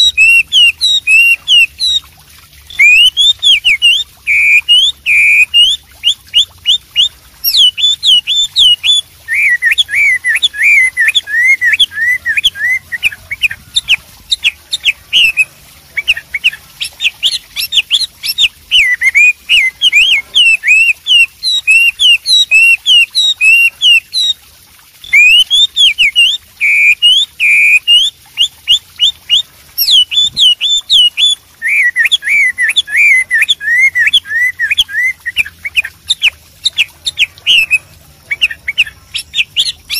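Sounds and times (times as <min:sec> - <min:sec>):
songbird singing whistled notes: 0:00.0 - 0:02.0, 0:02.7 - 0:24.4, 0:25.0 - 0:39.9.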